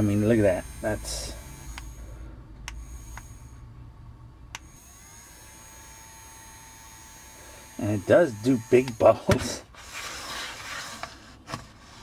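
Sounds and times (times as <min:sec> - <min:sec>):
small fan motor humming: 0:00.0 - 0:09.8
thin steady whine: 0:00.0 - 0:10.0.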